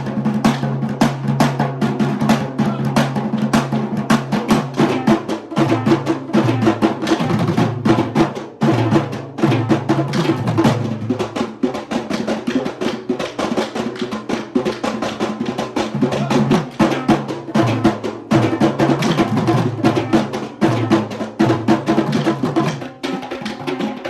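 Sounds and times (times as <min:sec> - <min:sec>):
drum ensemble playing fast rhythm: 0:00.0 - 0:24.0.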